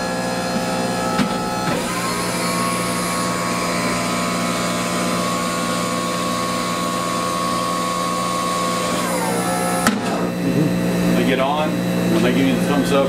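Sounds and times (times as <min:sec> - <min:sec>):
wheelchair lift motor whining: 0:00.0 - 0:13.0.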